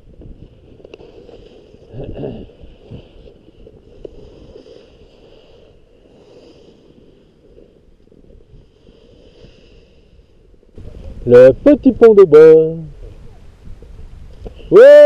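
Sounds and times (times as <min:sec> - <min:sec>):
skis scraping over snow: 0:00.0 - 0:14.8
wind on microphone: 0:00.0 - 0:15.0.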